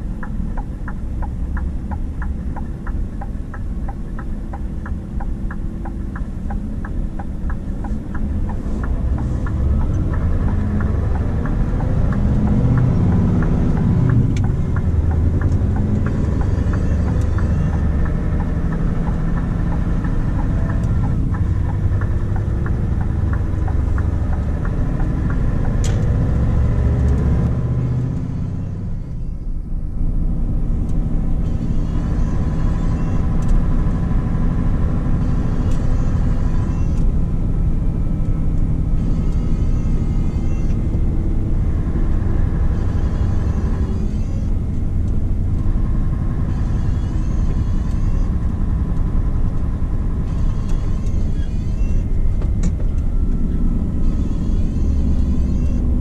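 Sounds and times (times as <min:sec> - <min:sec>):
diesel truck engine pulling: 0:00.0 - 0:56.0
tyre and road rumble: 0:00.0 - 0:56.0.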